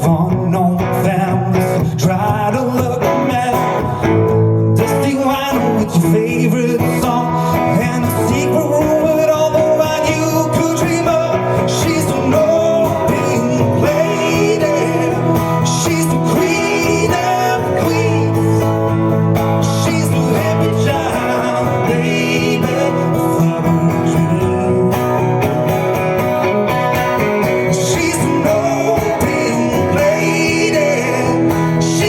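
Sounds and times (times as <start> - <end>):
guitars playing: 0.0 - 32.0
live country-rock band: 0.0 - 32.0.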